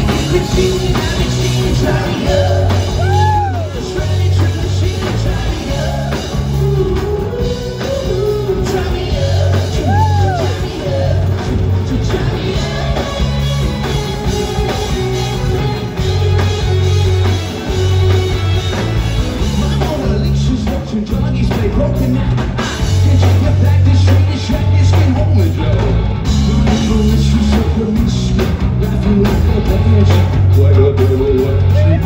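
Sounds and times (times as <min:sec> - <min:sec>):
lead singer singing: 0:00.0 - 0:16.7, 0:17.3 - 0:32.0
drum kit: 0:00.0 - 0:32.0
electric guitar: 0:00.0 - 0:32.0.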